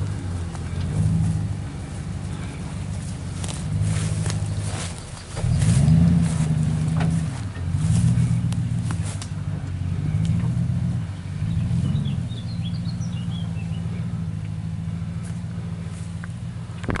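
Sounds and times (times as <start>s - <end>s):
birds chirping: 0.0s - 16.5s
truck engine running: 0.0s - 17.0s.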